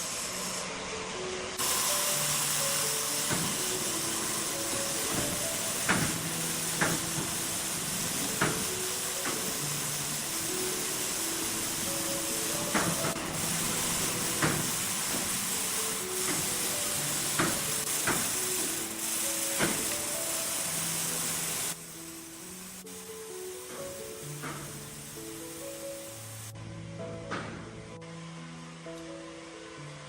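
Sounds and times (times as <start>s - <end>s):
quiet background melody: 0.0s - 30.0s
steady loud hiss: 0.0s - 30.0s.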